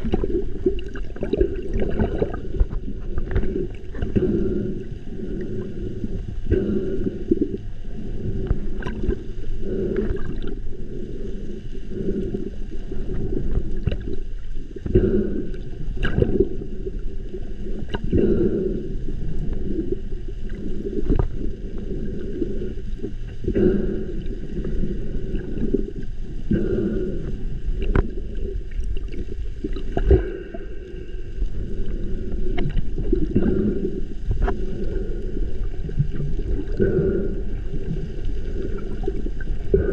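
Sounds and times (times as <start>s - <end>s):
faint steady hum: 0.0s - 39.9s
muffled underwater churning water: 0.0s - 39.9s.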